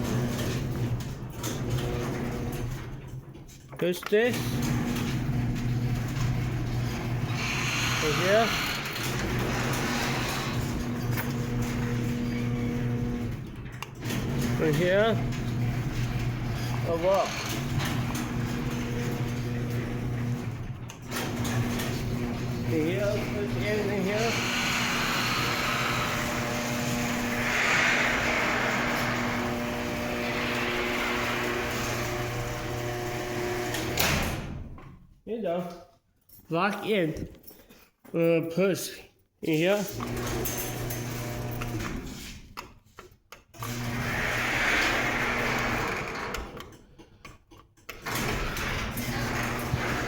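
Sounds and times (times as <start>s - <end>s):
garage door opener running: 0.0s - 35.0s, 39.8s - 42.6s, 43.5s - 47.0s, 47.9s - 50.0s.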